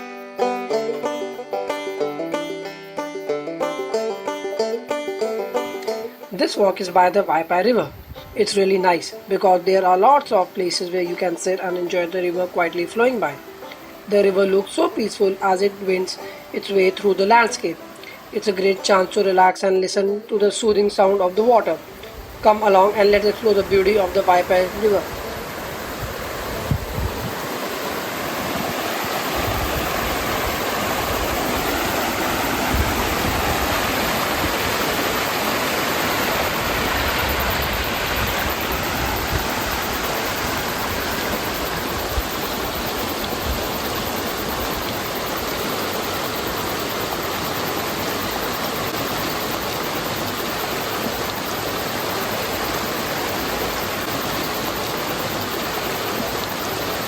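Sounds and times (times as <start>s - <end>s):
river water rushing: 3.6s - 57.0s.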